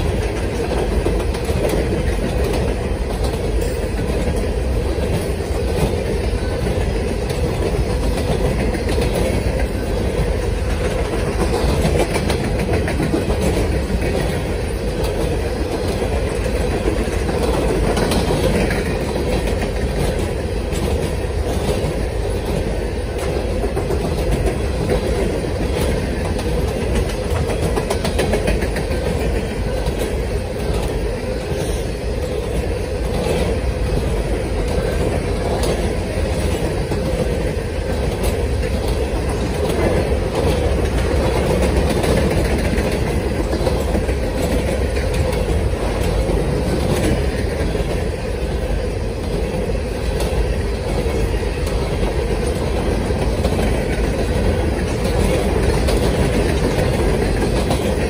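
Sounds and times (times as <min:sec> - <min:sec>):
steel wheels rumbling on rails: 0:00.0 - 0:58.0
wheels clacking over rail joints: 0:00.0 - 0:58.0.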